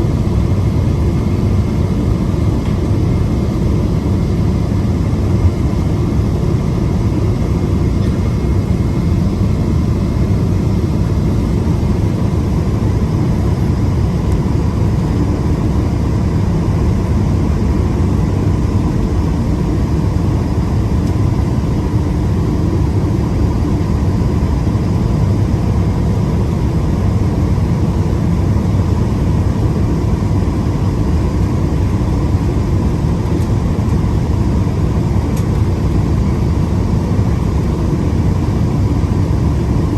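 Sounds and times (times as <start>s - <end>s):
aircraft cabin engine noise: 0.0s - 39.9s.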